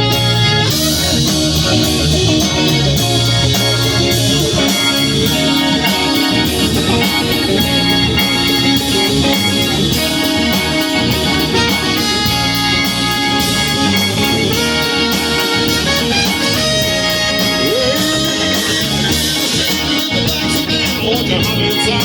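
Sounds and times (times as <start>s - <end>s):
guitar: 0.0s - 22.0s
rock band instrumental: 0.0s - 22.0s.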